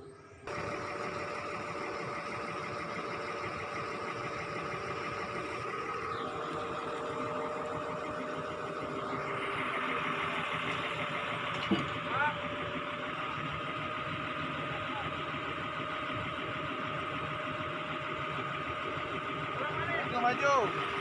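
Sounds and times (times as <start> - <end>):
crane engine running: 0.0 - 21.0.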